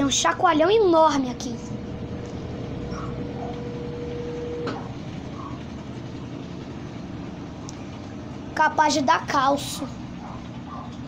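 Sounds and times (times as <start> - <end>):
faint hum: 0.0 - 11.0
washing machine spinning: 0.0 - 11.0.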